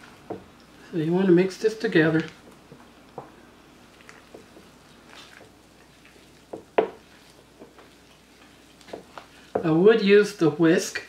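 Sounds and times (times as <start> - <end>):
spatula squishing thick dip in bowl: 0.0 - 10.0.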